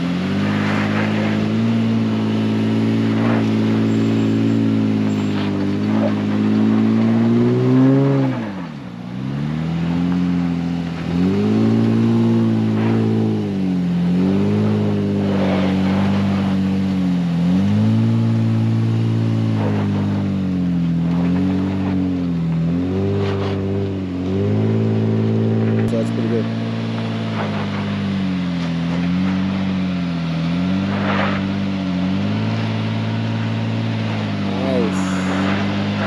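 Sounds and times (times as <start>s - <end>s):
engine revving under load: 0.0s - 36.0s.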